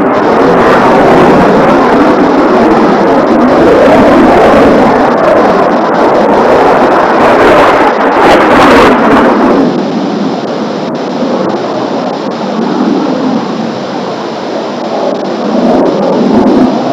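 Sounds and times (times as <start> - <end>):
jet roar: 0.0 - 16.9.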